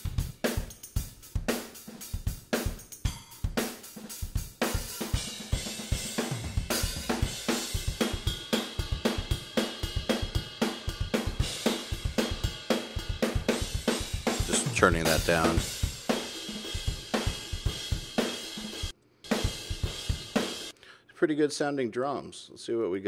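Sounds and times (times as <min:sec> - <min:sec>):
kick and snare drum beat: 0:00.0 - 0:20.7.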